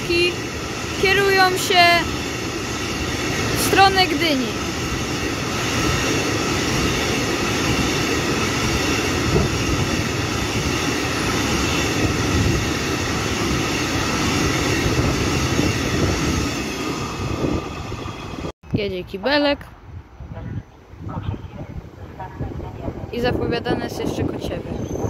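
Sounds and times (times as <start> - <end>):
steel wheels rumbling on rails: 0.0 - 18.5, 21.1 - 25.0.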